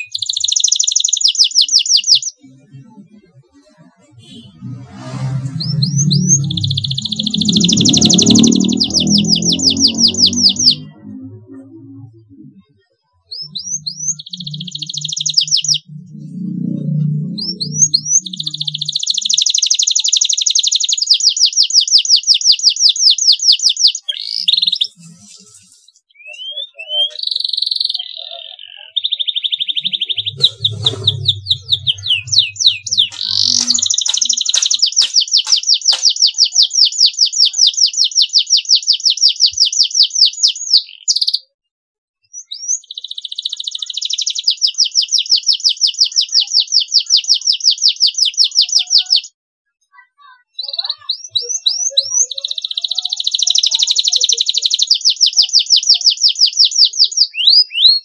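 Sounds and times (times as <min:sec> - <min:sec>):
canary singing trills: 0:00.0 - 0:41.6, 0:42.2 - 0:49.4, 0:50.4 - 0:58.0.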